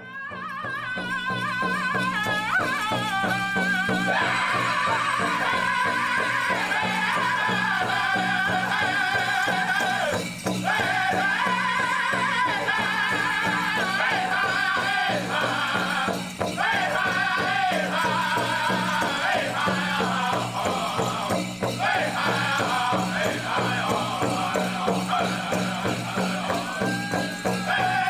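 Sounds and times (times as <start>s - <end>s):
group singing high-pitched lines: 0.0s - 28.0s
fast beat on large drum: 0.5s - 28.0s.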